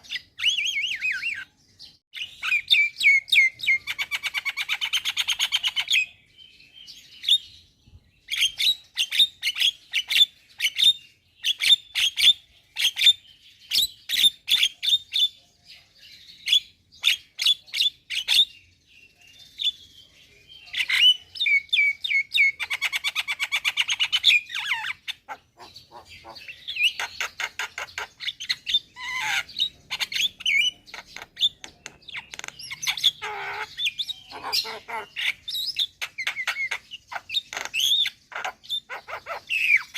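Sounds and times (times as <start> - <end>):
bird singing with sharp chirps: 0.0 - 39.9.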